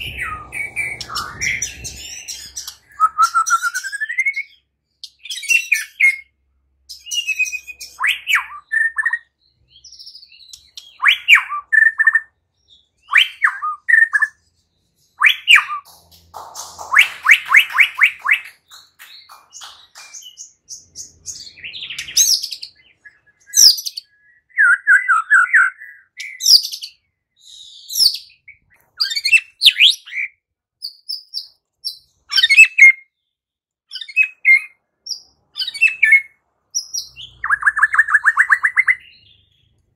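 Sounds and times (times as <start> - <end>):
songbird singing whistled phrases: 0.0 - 6.3, 6.9 - 33.2, 33.9 - 39.7.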